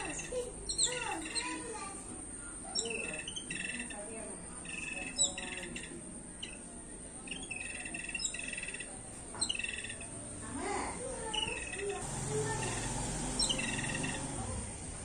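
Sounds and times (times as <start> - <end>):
songbirds calling: 0.0 - 15.0.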